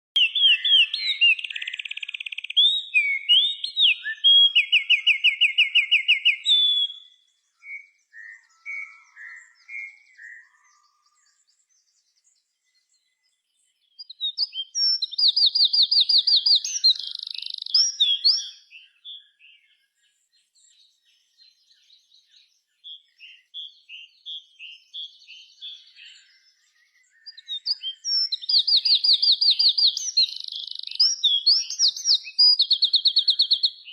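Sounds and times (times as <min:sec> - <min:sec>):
soft bird chirps: 0:00.2 - 0:33.9.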